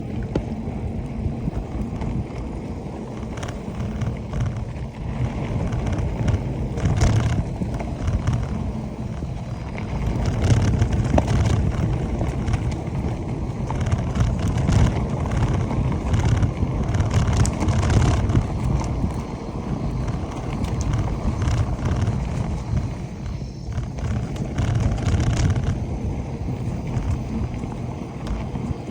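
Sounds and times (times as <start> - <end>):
bike rattling and knocking: 0.0 - 28.9
wind buffeting microphone: 0.0 - 28.9.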